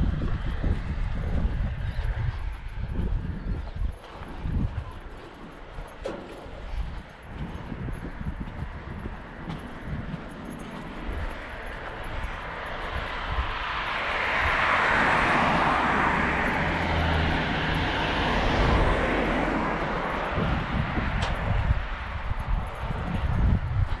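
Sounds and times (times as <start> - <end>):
airplane engine rushing: 0.0 - 24.0.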